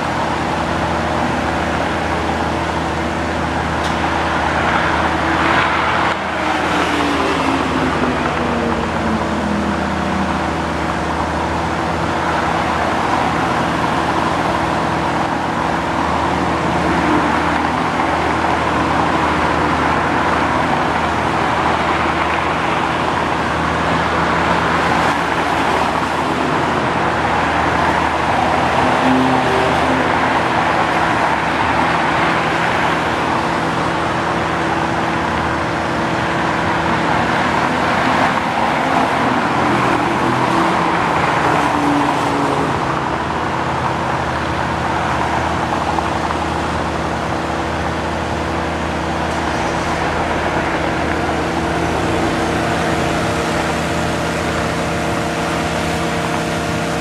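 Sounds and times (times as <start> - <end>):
cars driving past slowly: 0.0 - 57.0
low engine hum: 0.0 - 57.0.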